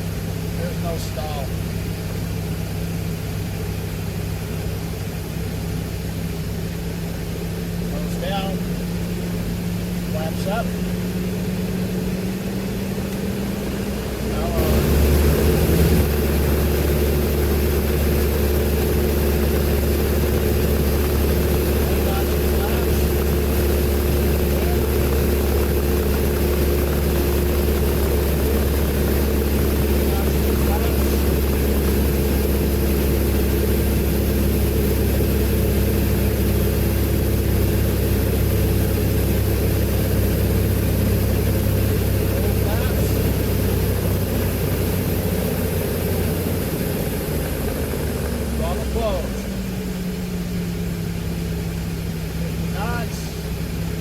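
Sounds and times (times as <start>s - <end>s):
airplane engine and propeller droning: 0.0s - 54.0s.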